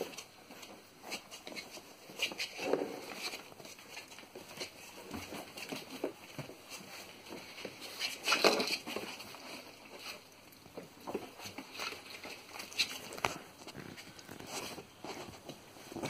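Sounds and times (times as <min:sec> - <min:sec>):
puppy paws scrabbling on tile: 0:00.0 - 0:16.0
puppy scuffle: 0:00.0 - 0:16.0.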